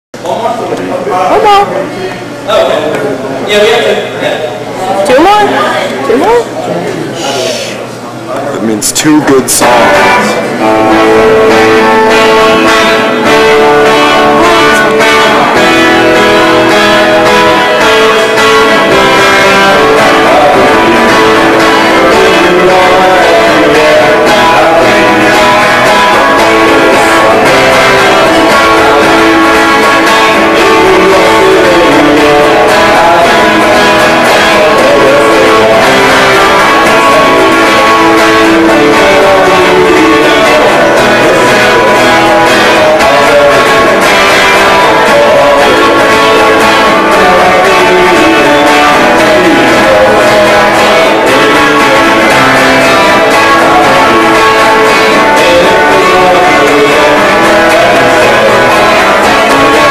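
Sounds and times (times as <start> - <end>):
electric guitar: 9.2 - 59.9
live band playing: 9.4 - 59.9.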